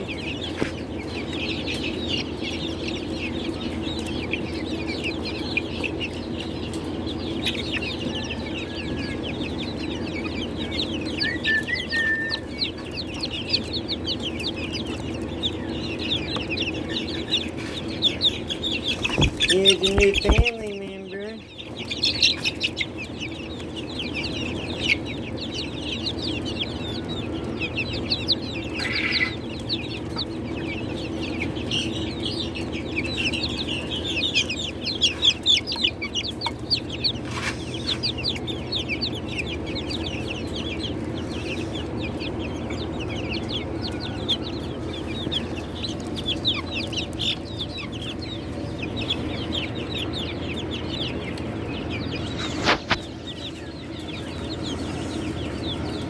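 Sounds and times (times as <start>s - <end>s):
chicks peeping: 0.0s - 56.0s
steady low hum: 0.0s - 56.0s.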